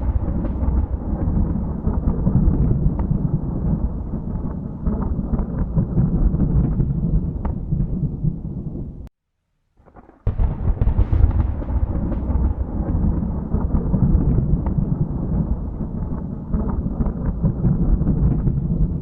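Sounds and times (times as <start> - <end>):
sharp thunderclap: 0.0 - 8.8, 9.8 - 19.0
thunder rumbling: 0.0 - 9.1, 9.8 - 19.0.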